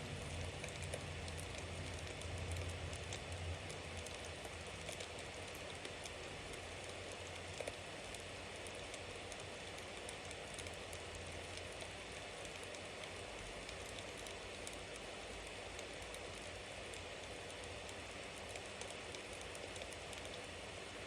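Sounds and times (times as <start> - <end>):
fire crackles and pops: 0.0 - 21.0.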